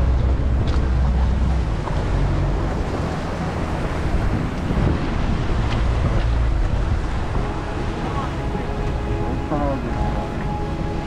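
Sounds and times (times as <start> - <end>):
low engine drone: 0.0 - 11.0
water rushing along hull: 0.0 - 11.0
wind buffeting microphone: 0.0 - 11.0.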